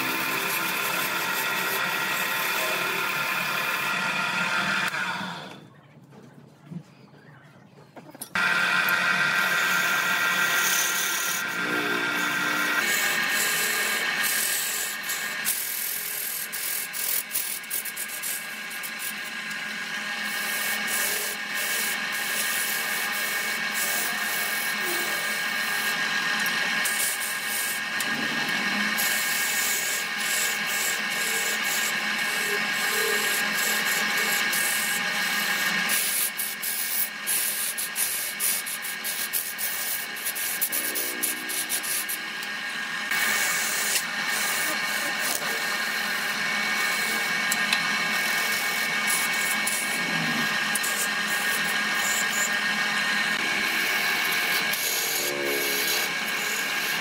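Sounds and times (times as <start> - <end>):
lathe tool cutting wood: 0.0 - 5.6, 8.4 - 57.0
lathe whining: 0.0 - 5.6, 8.3 - 57.0.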